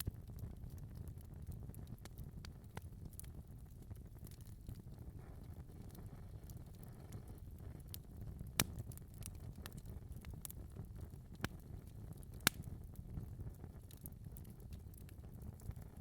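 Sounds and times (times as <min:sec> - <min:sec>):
fire flames rumbling: 0:00.0 - 0:16.0
wood fire crackling and popping: 0:00.0 - 0:16.0.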